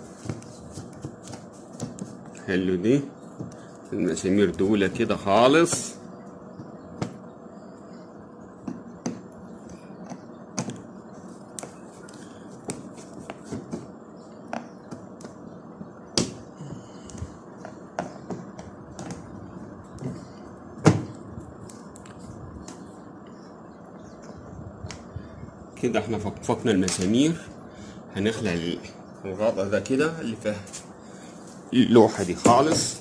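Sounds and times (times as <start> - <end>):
faint steady background noise: 0.0 - 33.0.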